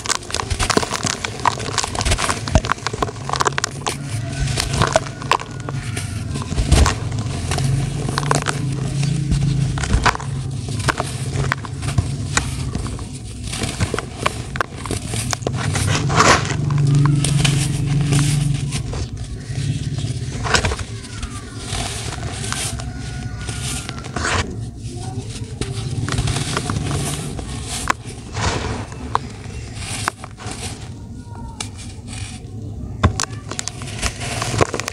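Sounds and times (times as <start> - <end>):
dry clods crunching in hands: 0.0 - 32.4, 33.2 - 34.9
low steady hum: 0.0 - 34.9.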